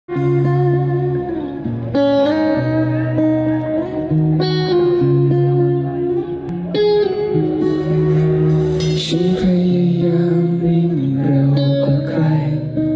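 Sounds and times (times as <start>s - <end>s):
acoustic guitar chords: 0.1s - 12.9s.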